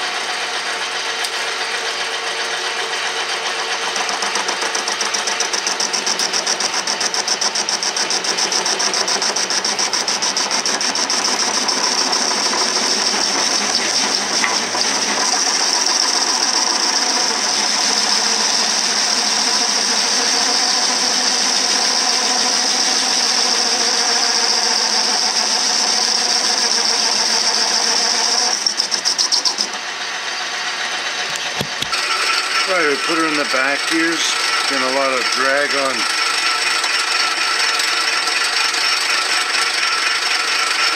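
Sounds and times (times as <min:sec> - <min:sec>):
metal lathe cutting steel: 0:00.0 - 0:40.9.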